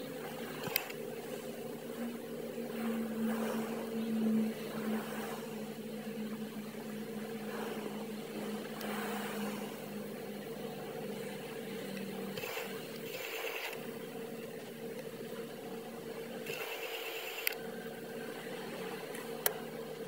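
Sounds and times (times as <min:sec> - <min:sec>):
ship diesel engine humming: 0:00.0 - 0:20.0.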